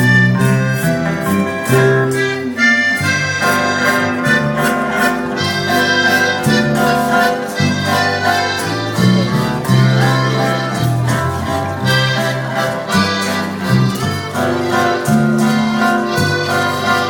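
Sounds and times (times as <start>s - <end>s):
accordion playing waltz: 0.0s - 17.0s
bass notes: 0.0s - 17.0s
guitar: 0.0s - 17.0s.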